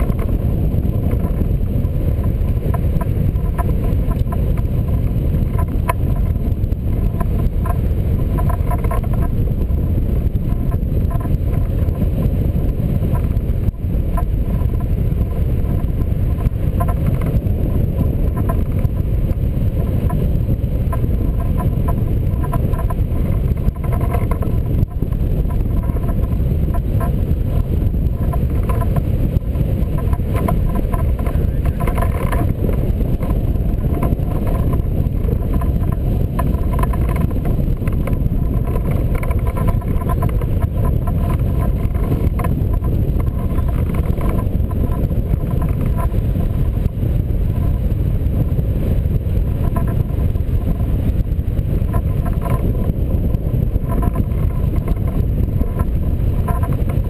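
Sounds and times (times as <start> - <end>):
faint fluttering: 0.0 - 57.0
wind rushing over microphone: 0.0 - 57.0.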